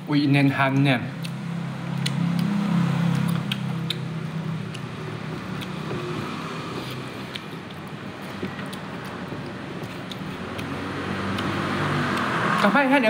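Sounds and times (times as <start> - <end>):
person chewing rice: 1.2 - 12.6
wet mouth clicks and smacks: 1.2 - 12.7.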